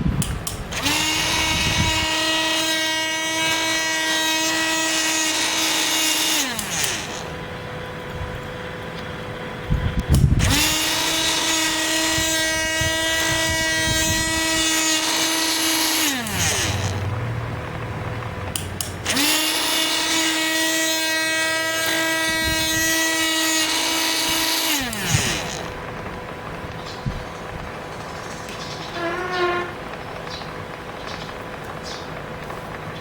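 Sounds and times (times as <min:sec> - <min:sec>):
electric drill whining: 0:00.2 - 0:32.6.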